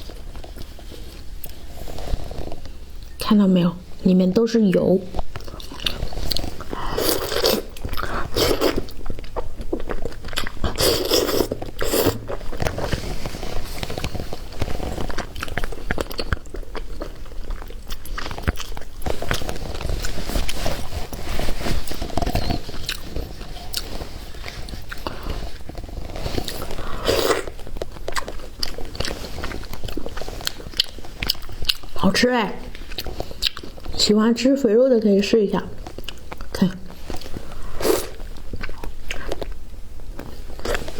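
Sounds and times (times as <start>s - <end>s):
wet chewing with mouth clicks: 4.7s - 32.0s, 32.6s - 34.0s, 35.8s - 40.9s.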